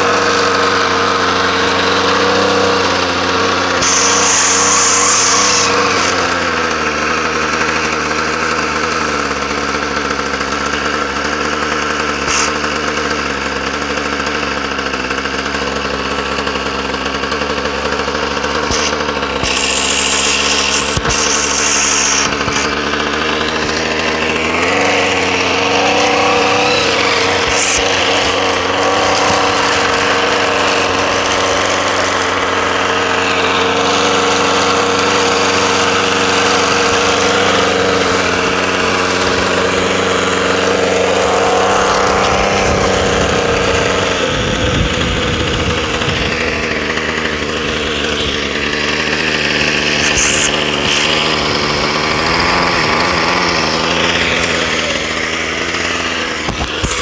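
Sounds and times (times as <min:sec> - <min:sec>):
string trimmer engine running: 0:00.0 - 0:57.0.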